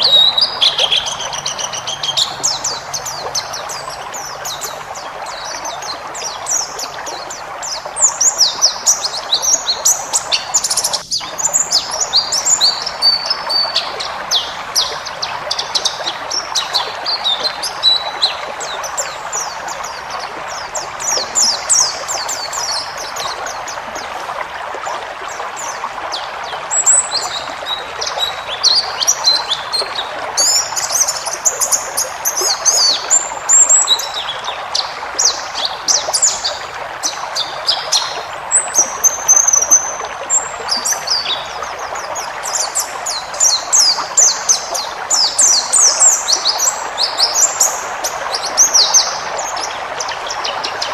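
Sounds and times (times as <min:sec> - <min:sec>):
bird twittering song: 0:00.0 - 0:50.9.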